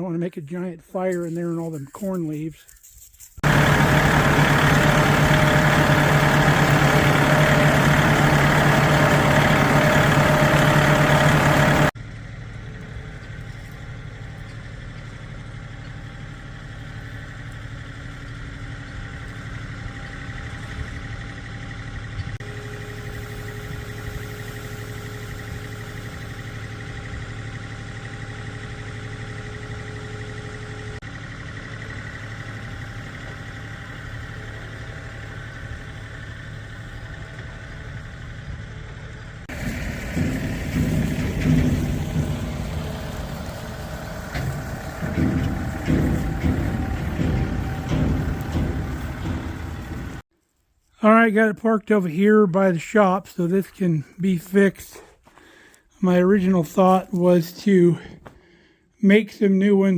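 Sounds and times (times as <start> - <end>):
vehicle engine running: 1.2 - 50.3.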